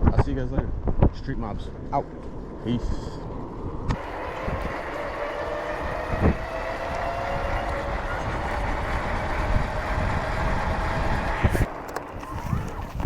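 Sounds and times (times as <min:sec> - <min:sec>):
tyre and wind rumble: 0:00.0 - 0:13.0
hub motor whine: 0:01.7 - 0:13.0.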